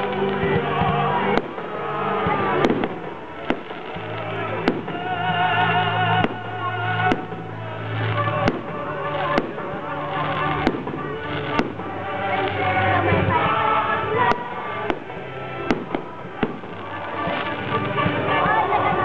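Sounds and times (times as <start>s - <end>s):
fireworks bangs: 0.0s - 19.0s
music playing: 0.0s - 19.0s.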